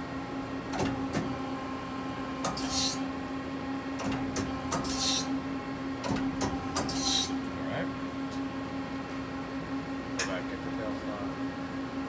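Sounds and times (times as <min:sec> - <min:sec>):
lathe machine hum: 0:00.0 - 0:12.0.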